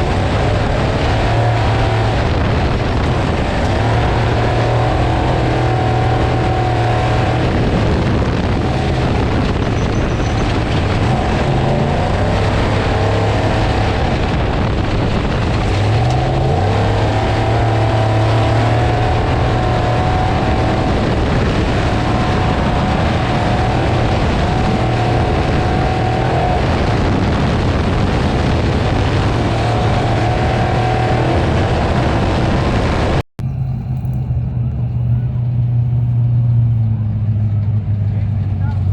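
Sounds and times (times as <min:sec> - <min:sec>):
race truck engine running hard: 0:00.0 - 0:38.9
road and wind noise: 0:00.0 - 0:38.9.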